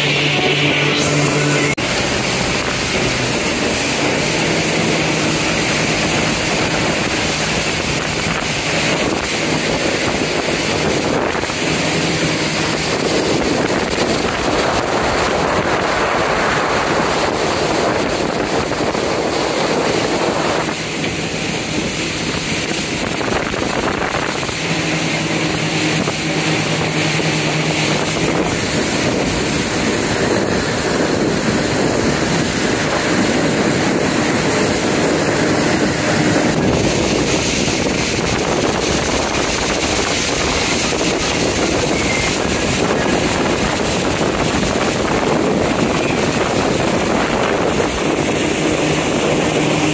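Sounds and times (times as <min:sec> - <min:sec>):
jet boat engine hum: 0:00.0 - 0:49.9
rushing water: 0:00.0 - 0:49.9
wind buffeting microphone: 0:00.0 - 0:49.9.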